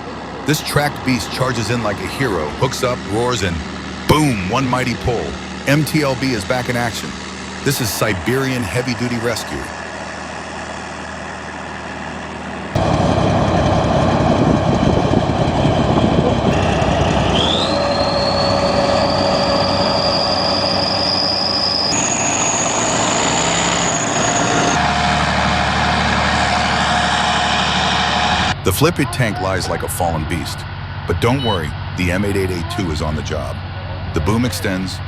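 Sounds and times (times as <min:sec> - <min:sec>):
heavy vehicle engine running hard: 0:00.0 - 0:35.0
high engine whine: 0:00.0 - 0:35.0.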